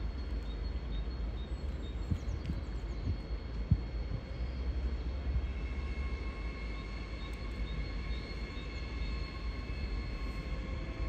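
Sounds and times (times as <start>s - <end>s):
electric train rumbling over points: 0.0s - 11.0s.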